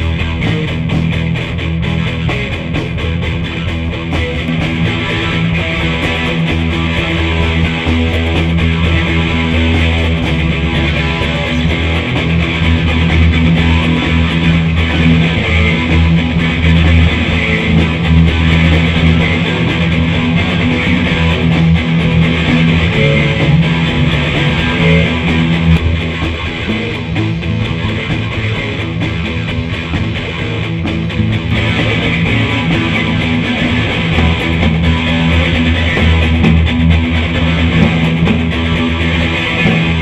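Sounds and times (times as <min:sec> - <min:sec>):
bass guitar: 0:00.0 - 0:40.0
drum kit: 0:00.0 - 0:40.0
electric guitar rock riff: 0:00.0 - 0:40.0.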